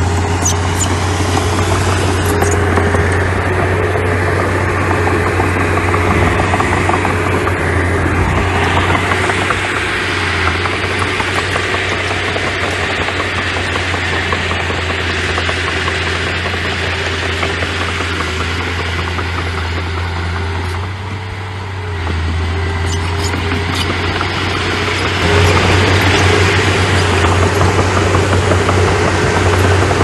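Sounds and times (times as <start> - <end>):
construction machine engine running: 0.0 - 30.0.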